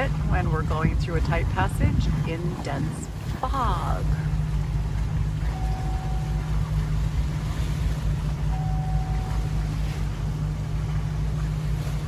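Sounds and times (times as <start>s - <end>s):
motorboat engine running: 0.0s - 12.0s
water noise: 0.0s - 12.0s.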